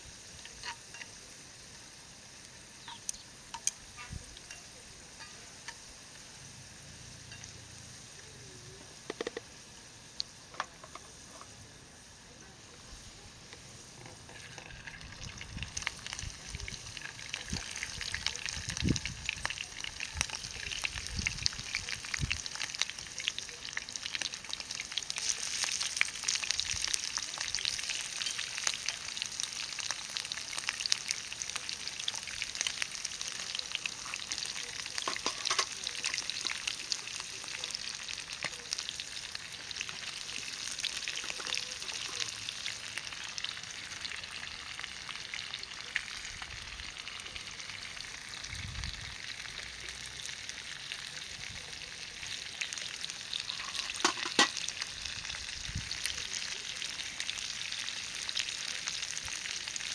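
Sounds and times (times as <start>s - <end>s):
oil sizzling in a pan: 0.0s - 59.9s.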